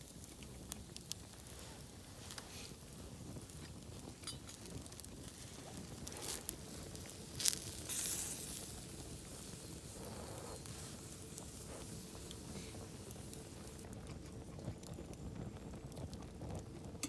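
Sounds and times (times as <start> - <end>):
campfire crackling: 0.0 - 17.0
fire sharp pops: 0.0 - 17.0.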